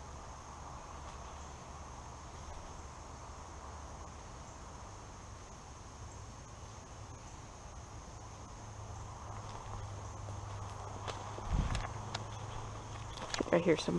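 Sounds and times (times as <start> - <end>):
insects droning high-pitched: 0.0 - 13.9.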